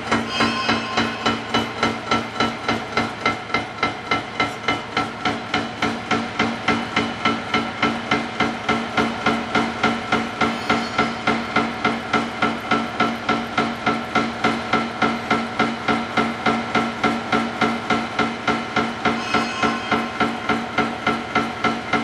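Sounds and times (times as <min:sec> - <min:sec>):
milling cutter clattering on steel: 0:00.0 - 0:22.0.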